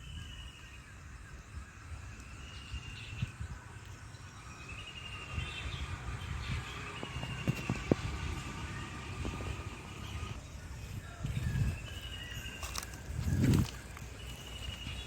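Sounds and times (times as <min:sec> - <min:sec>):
low wind-like rumble: 0:00.0 - 0:15.0.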